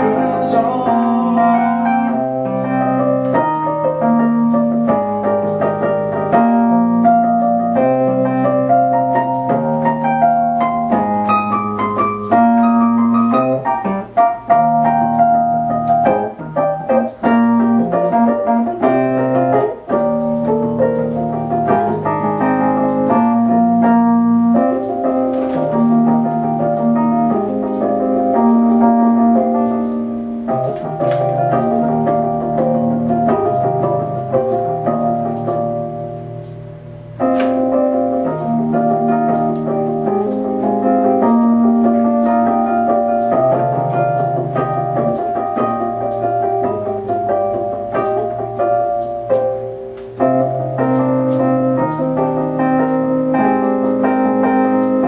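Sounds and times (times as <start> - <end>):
electric piano playing: 0.0 - 55.0.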